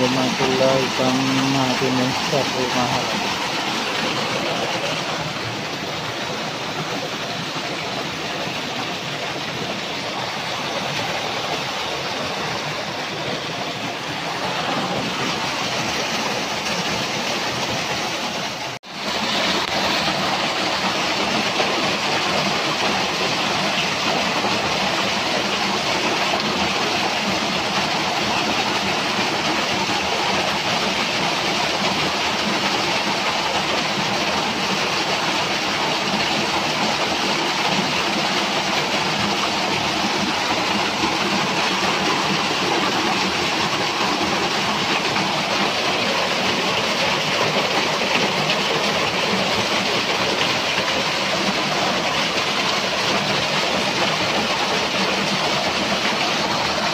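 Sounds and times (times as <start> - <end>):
waterfall splashing into pool: 0.0 - 56.9.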